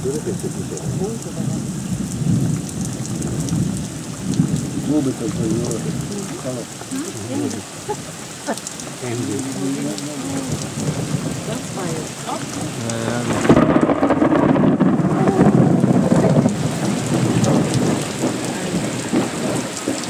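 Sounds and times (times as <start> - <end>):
heavy rain falling on sea: 0.0 - 20.0
thunder rumbling: 0.0 - 20.0.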